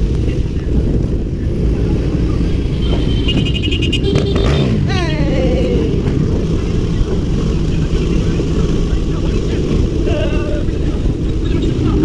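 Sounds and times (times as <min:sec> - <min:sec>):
dirt bike engine running: 0:00.0 - 0:12.0
wind noise: 0:00.0 - 0:12.0.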